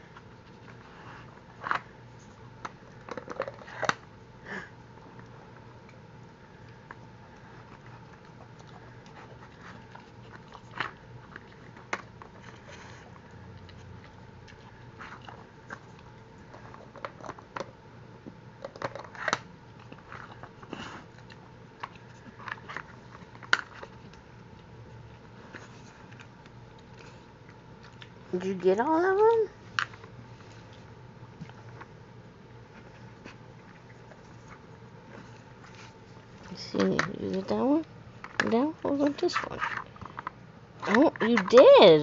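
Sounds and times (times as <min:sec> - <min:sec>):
dog crunching treats: 0:00.0 - 0:04.2, 0:05.0 - 0:32.0, 0:32.6 - 0:41.9.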